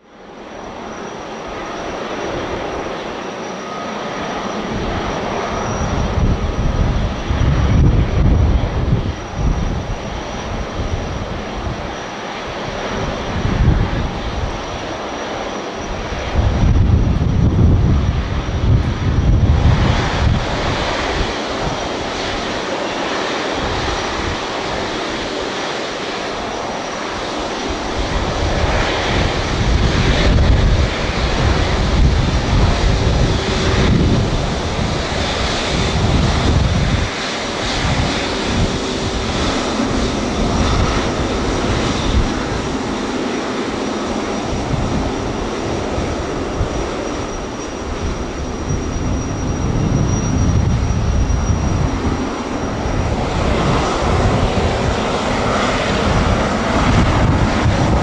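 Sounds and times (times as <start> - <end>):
jet engine hiss and whine: 0.0 - 58.0.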